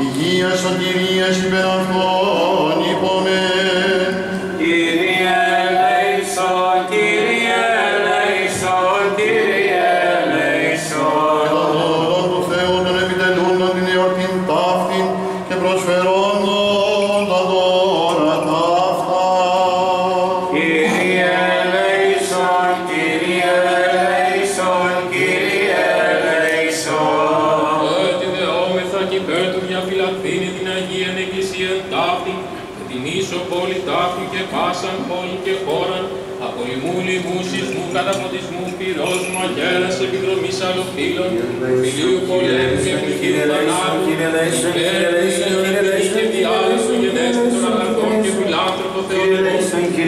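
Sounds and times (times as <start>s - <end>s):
voices singing a slow chant: 0.0s - 35.8s, 36.6s - 50.0s
held vocal drone: 0.0s - 50.0s.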